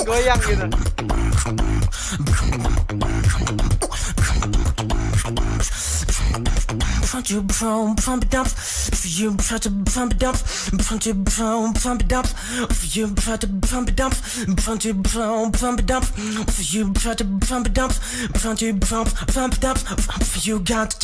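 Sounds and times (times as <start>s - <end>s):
beatboxing: 0.0s - 21.0s.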